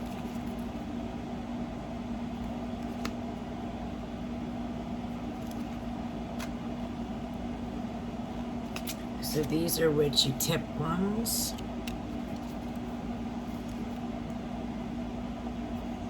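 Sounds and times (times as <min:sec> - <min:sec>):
appliance hum with faint tone: 0:00.0 - 0:16.0.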